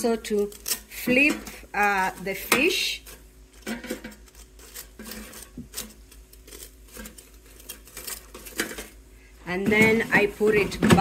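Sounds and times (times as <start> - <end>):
tongs clicking on metal basket: 0.0 - 8.9.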